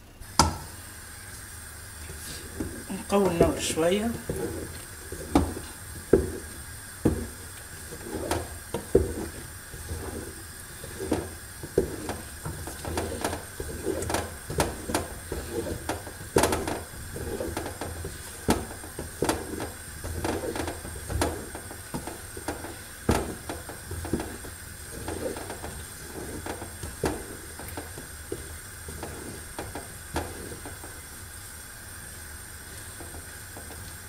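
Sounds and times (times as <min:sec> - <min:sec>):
wooden spoon stirring thick paste: 0:01.9 - 0:31.3.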